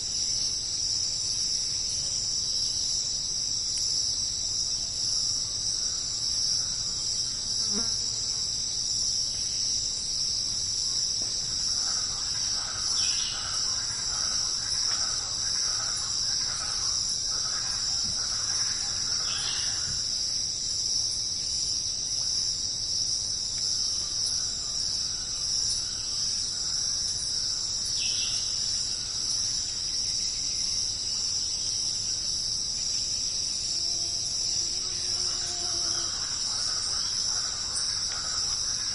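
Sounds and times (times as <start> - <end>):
insect chorus trilling: 0.0 - 38.9.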